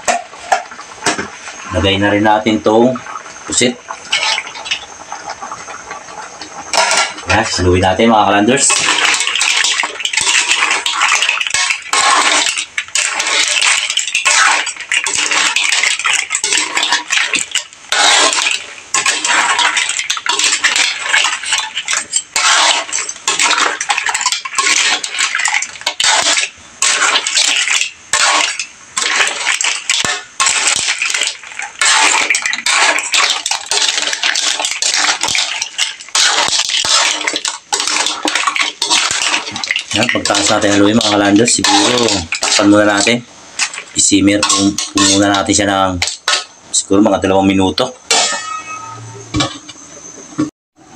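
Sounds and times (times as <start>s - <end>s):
metal spatula scraping a wok: 6.7s - 7.5s, 8.6s - 46.6s, 48.1s - 50.2s.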